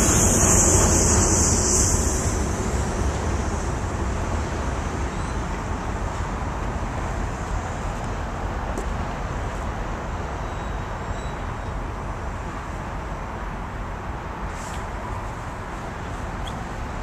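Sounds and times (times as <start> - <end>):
freight train departing: 0.0 - 17.0
road traffic rumble: 0.0 - 17.0.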